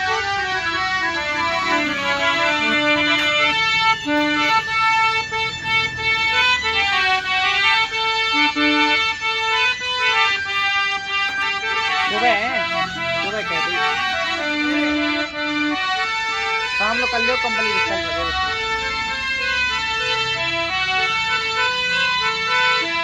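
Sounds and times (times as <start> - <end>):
electronic harmonium melody: 0.0 - 23.0.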